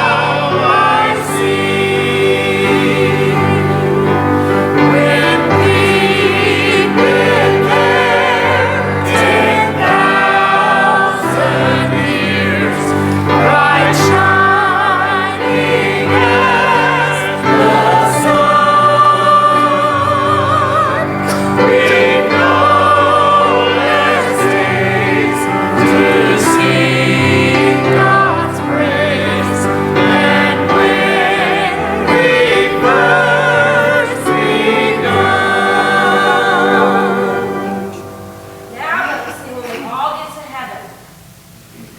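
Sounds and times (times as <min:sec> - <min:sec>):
sustained instrumental accompaniment: 0:00.0 - 0:39.6
choir singing a hymn: 0:00.0 - 0:40.1.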